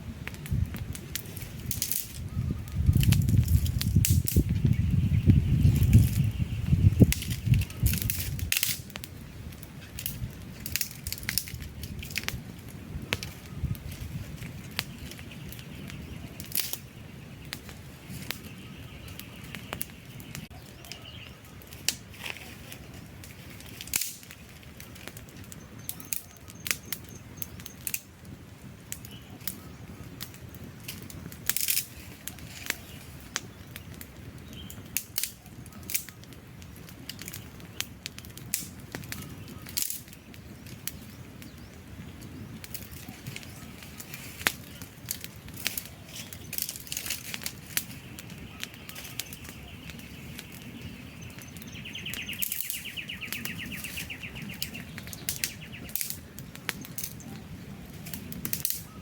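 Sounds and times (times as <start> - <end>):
campfire logs crackling: 0.0 - 59.0.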